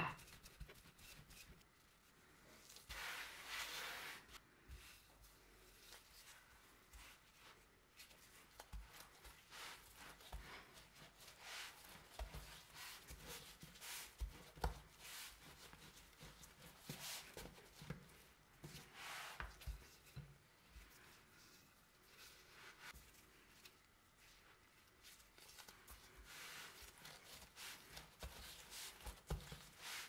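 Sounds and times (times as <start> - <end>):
dough rubbing on rolling pin: 2.6 - 23.0, 24.2 - 30.0.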